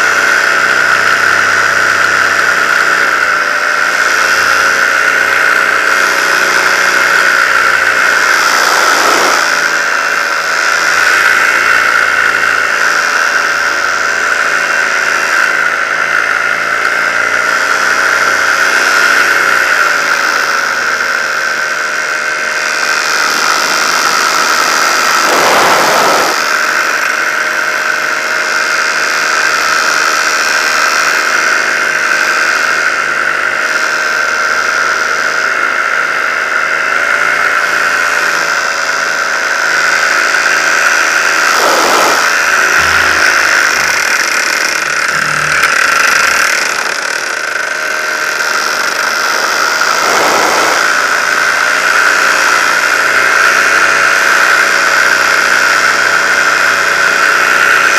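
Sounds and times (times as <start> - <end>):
paramotor engine drone: 0.0 - 57.9.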